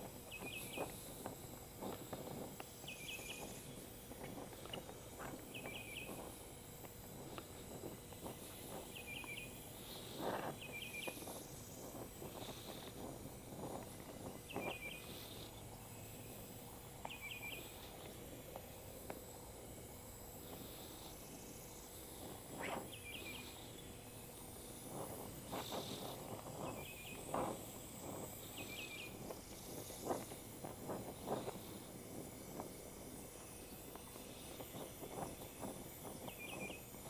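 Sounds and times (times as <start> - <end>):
faint crackles: 0.0 - 37.0
torch flame hissing: 0.0 - 37.0.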